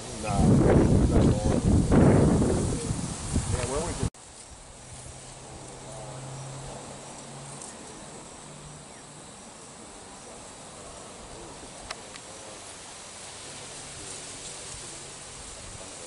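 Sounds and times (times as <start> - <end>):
insects chirping and buzzing: 0.0 - 16.0.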